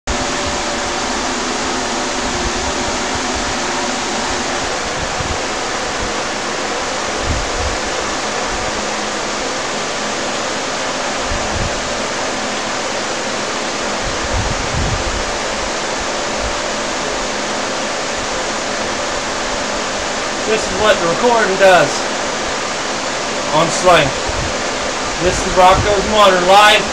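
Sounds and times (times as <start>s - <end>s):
loud steady hiss: 0.1s - 26.9s.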